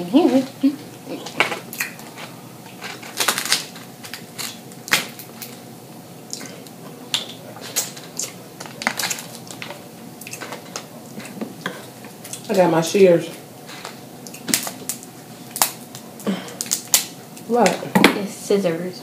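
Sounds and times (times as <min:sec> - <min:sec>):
crab shells cracking: 0:01.2 - 0:12.5, 0:13.7 - 0:17.8.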